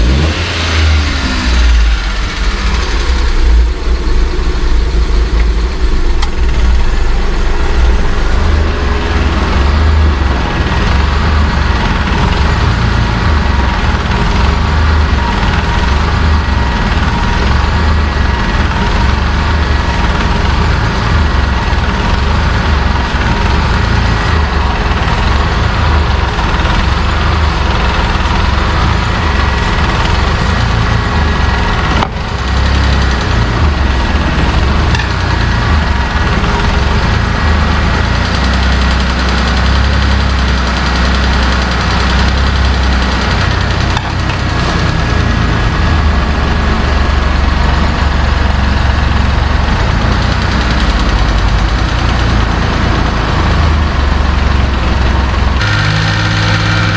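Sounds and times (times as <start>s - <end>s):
truck engine idling roughly: 0.0s - 56.9s.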